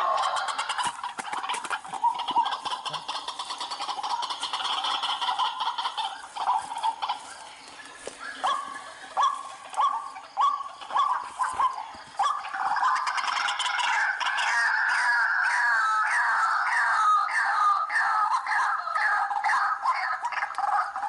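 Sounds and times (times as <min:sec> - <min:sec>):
waterhen chattering and croaking: 0:00.0 - 0:21.0.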